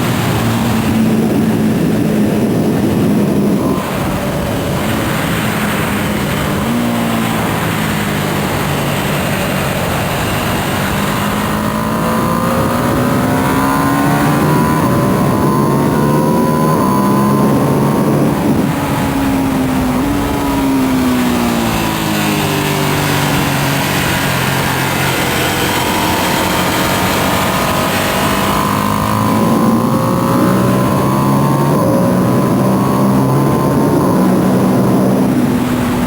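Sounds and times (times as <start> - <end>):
loud wind rush: 0.0 - 36.0
motorcycle engine at speed: 0.0 - 36.0.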